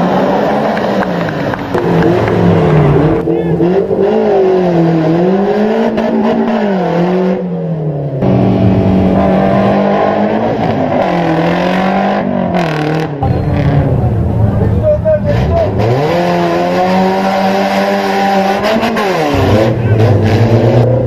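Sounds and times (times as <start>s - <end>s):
engine revving loudly: 1.7s - 7.5s, 8.2s - 14.4s, 15.0s - 21.0s.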